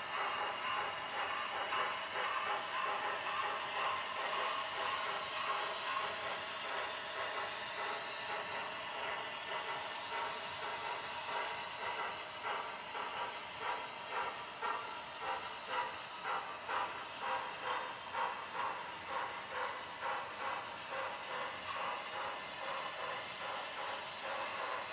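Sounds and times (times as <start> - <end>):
model train whirring and rattling: 0.0 - 24.9
rhythmic clicking: 0.0 - 24.9.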